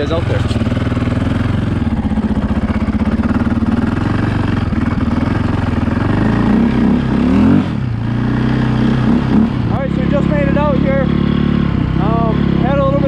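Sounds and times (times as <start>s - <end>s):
dirt bike engines idling: 0.0s - 13.0s.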